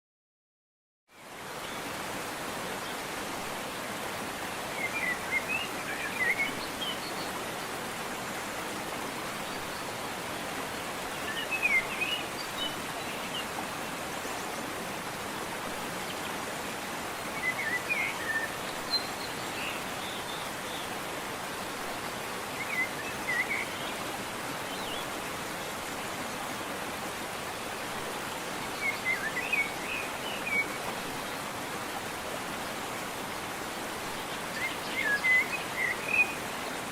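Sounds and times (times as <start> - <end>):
waterfall rushing: 1.3 - 36.9.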